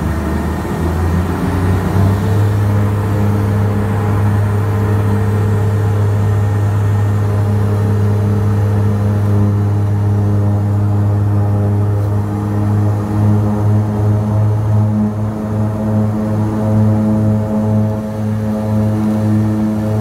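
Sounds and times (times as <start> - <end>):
aircraft engines droning in cabin: 0.0 - 20.0.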